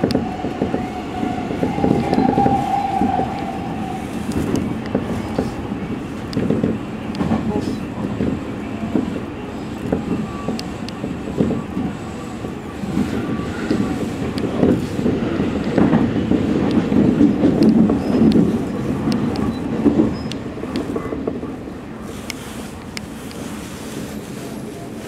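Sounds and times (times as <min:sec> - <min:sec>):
train wheels clicking and clacking: 0:00.0 - 0:21.4
oncoming train passing: 0:00.0 - 0:25.0
train wheel rumble: 0:00.0 - 0:25.0.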